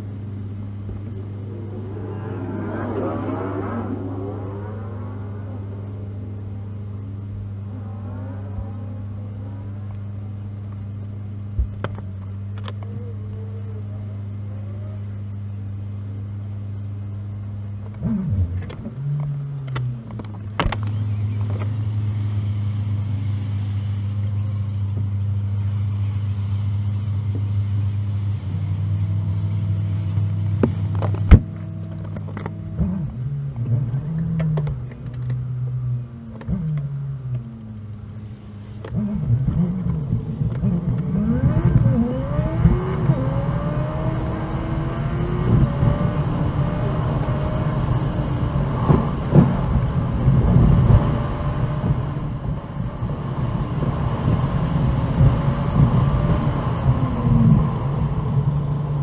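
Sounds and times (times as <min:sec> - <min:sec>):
car engine and road hum: 0:00.0 - 0:59.0.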